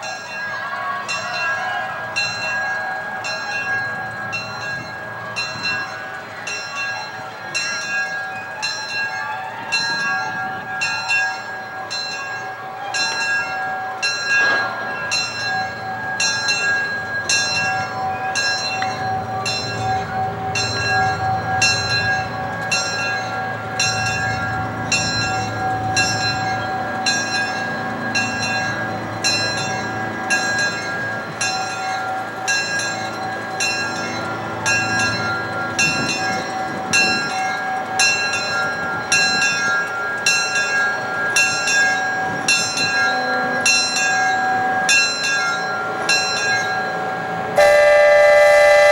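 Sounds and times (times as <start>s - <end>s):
locomotive bell ringing: 0.0s - 48.9s
train rumbling along: 0.0s - 48.9s.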